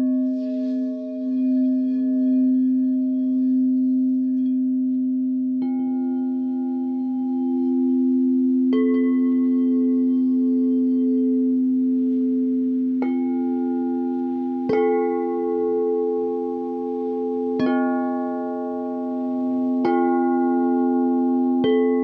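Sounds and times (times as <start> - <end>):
low singing bowl tone: 0.0 - 22.0
singing bowls struck and ringing: 0.0 - 22.0.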